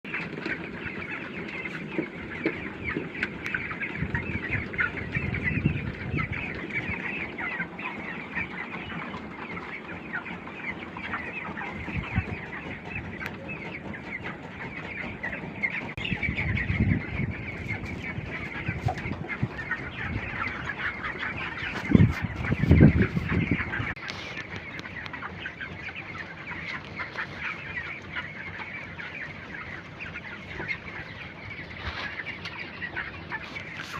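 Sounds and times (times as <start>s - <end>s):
chickens chirping and clucking: 0.0s - 33.9s.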